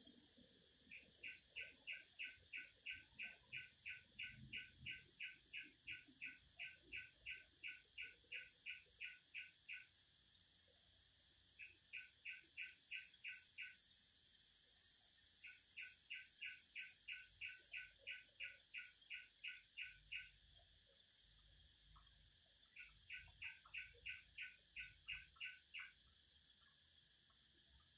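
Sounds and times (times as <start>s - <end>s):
cicadas droning: 0.2s - 27.9s
short evenly spaced chirps: 0.8s - 26.0s.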